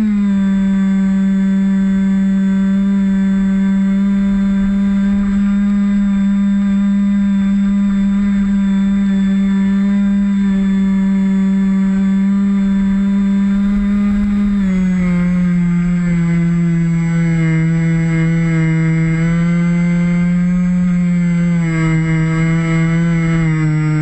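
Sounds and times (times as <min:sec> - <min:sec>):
electric motor and propeller hum: 0:00.0 - 0:24.0.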